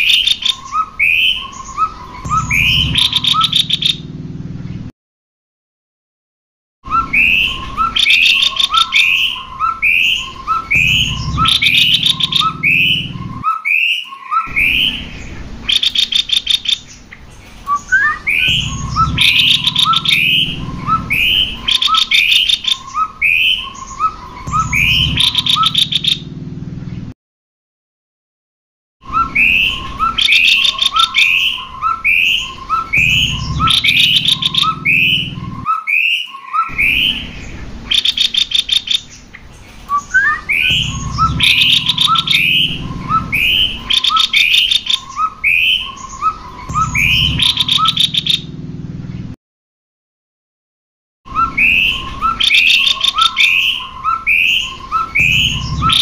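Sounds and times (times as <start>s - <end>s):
birds chirping: 0.0s - 4.9s, 6.8s - 27.2s, 29.0s - 49.4s, 51.3s - 56.0s.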